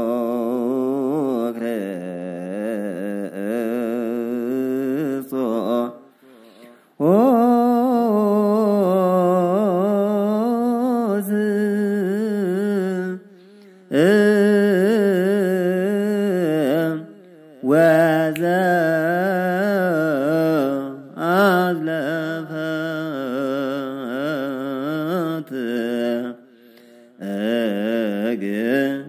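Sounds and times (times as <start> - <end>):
unaccompanied solo voice chanting: 0.0 - 29.0.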